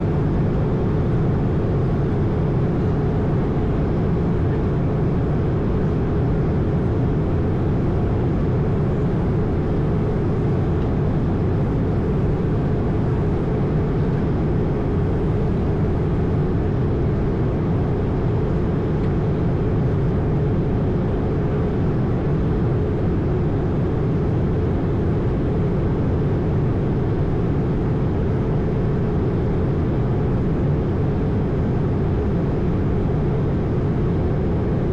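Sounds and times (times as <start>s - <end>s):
jet engines droning: 0.0s - 34.9s.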